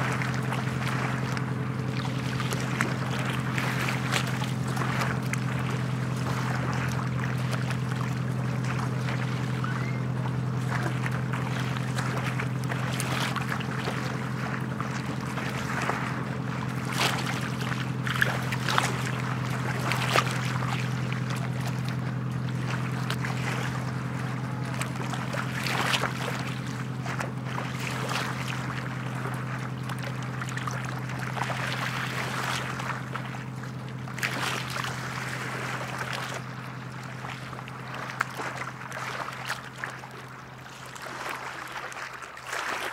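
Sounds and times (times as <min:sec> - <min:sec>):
boat engine humming at low revs: 0:00.0 - 0:42.9
water lapping: 0:00.0 - 0:42.9.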